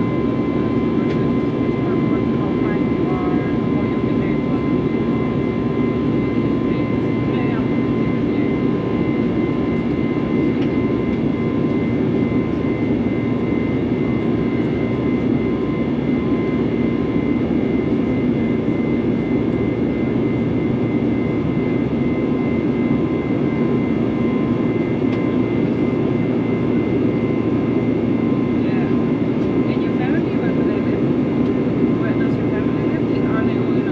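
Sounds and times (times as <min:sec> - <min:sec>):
airplane cabin noise: 0:00.0 - 0:33.9.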